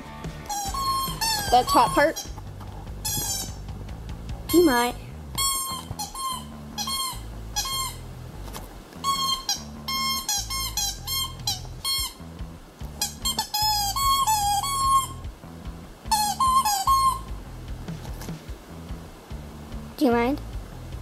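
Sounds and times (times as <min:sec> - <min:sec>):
repeating melody over bass line: 0:00.0 - 0:08.4, 0:09.0 - 0:17.9.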